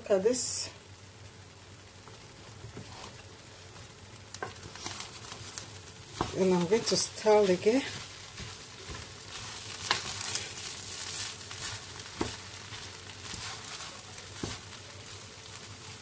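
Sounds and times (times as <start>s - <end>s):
soft sizzle: 0.0s - 16.0s
wooden spatula scraping rice in pan: 2.6s - 16.0s.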